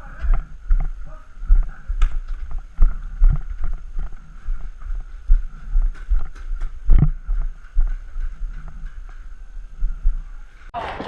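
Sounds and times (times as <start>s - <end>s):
low thumps and rustling: 0.0s - 10.7s.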